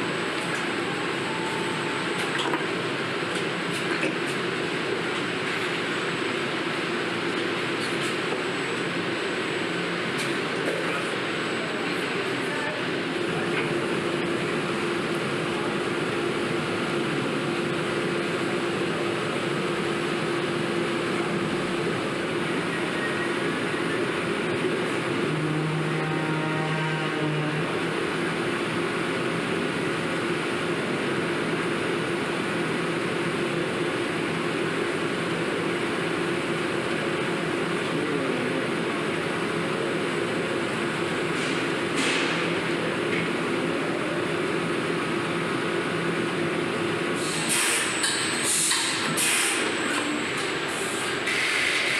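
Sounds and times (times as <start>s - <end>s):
low machine tone: 0.0s - 47.3s
constant machine hum: 0.0s - 51.9s.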